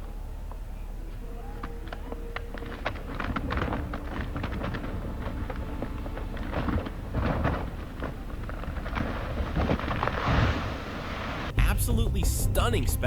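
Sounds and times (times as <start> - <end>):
crackles and knocks: 0.0 - 12.7
avalanche rumbling: 0.0 - 13.0.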